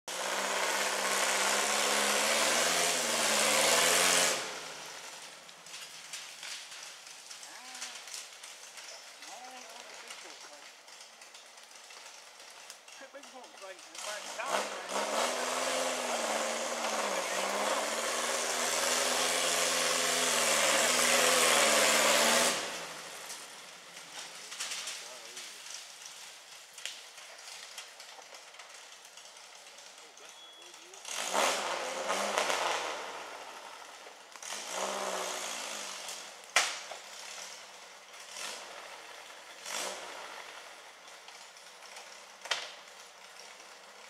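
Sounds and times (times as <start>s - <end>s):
buggy engine running hard: 0.0s - 44.0s.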